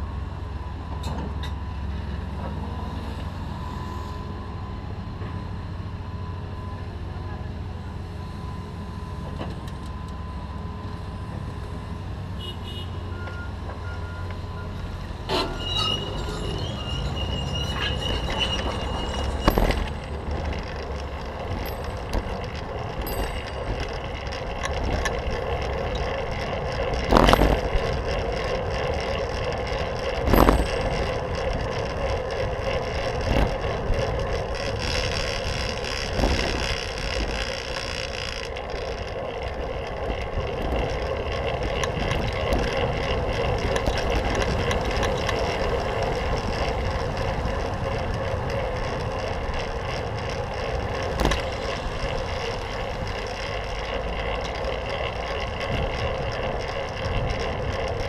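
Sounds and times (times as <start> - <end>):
traffic hum: 0.0 - 58.0
wind and road noise: 0.0 - 58.0.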